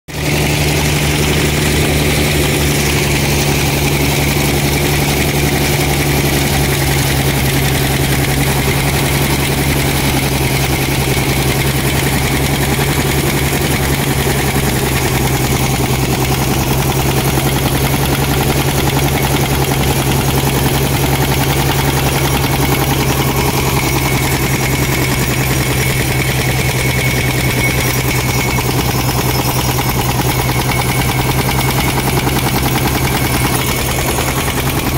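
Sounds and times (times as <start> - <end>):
tractor diesel engine under load: 0.0 - 34.9
thresher drum spinning: 0.1 - 34.9.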